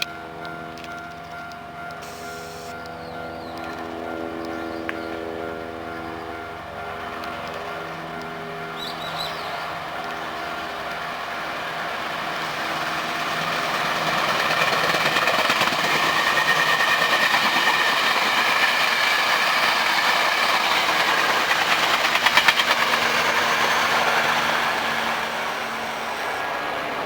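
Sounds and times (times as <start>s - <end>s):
electric train passing: 0.0s - 27.0s
wheels clattering on rails: 0.0s - 27.0s.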